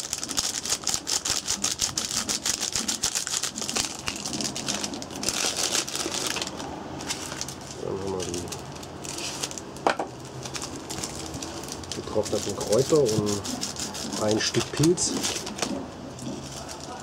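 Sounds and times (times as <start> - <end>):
plastic sachet crinkling: 0.0 - 17.0.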